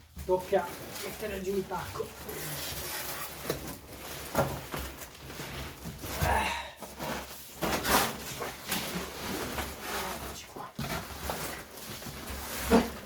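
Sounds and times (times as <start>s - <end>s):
cardboard scraping: 0.2s - 13.0s.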